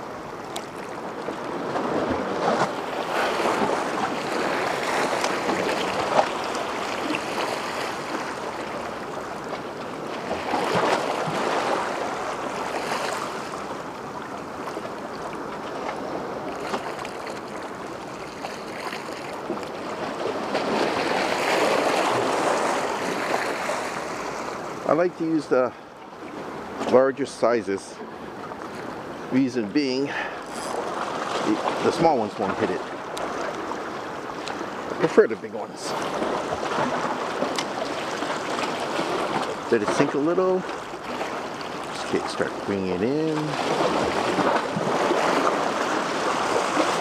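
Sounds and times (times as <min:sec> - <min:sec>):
ocean waves washing in: 0:00.0 - 0:47.0.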